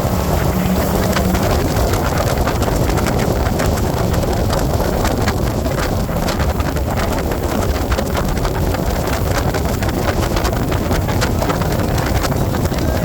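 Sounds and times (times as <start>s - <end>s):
constant crackling: 0.0s - 13.0s
jet boat engine: 0.0s - 13.0s
wind buffeting microphone: 0.0s - 13.0s.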